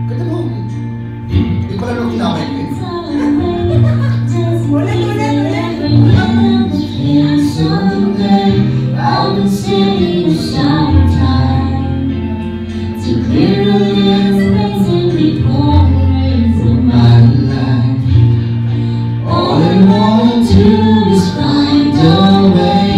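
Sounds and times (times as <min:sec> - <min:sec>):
amplified backing music: 0:00.0 - 0:22.9
man and woman singing: 0:01.4 - 0:12.3, 0:12.9 - 0:18.4, 0:19.1 - 0:22.9.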